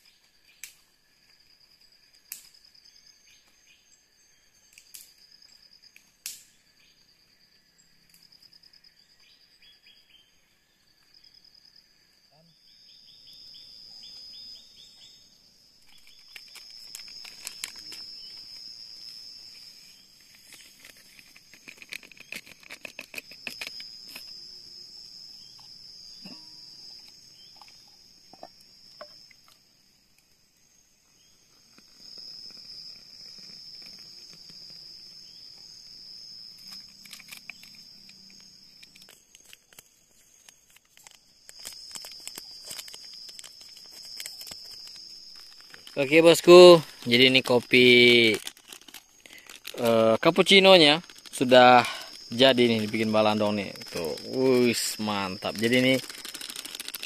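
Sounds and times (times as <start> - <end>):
insects buzzing chorus: 0.0 - 57.0.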